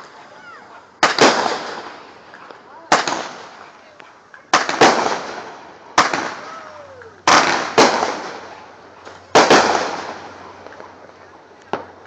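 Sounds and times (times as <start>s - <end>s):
fireworks sharp bangs: 0.0s - 12.0s.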